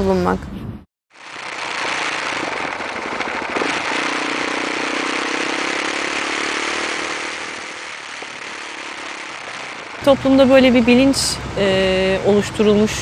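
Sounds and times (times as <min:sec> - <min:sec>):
engine hum: 0:01.1 - 0:13.0
traffic rushing noise: 0:01.2 - 0:13.0.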